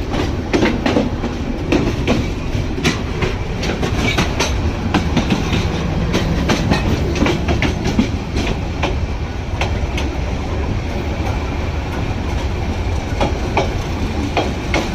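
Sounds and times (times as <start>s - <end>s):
train rumbling on track: 0.0s - 14.9s
wheels clacking over rails: 0.0s - 14.9s.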